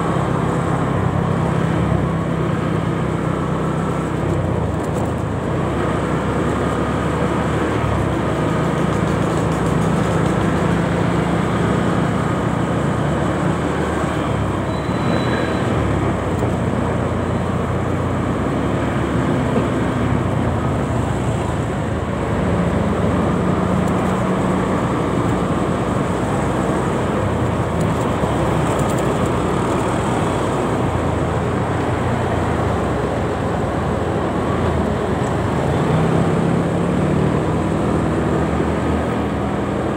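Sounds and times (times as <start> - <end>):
motorcycle engine humming: 0.0 - 39.9
surrounding traffic noise: 0.0 - 39.9.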